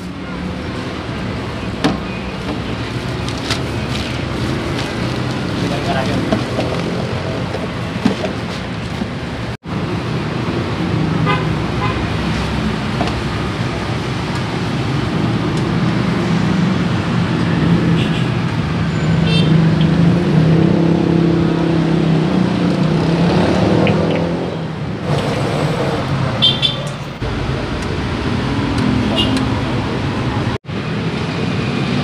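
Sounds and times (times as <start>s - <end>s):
vehicle engines passing: 0.0s - 32.0s.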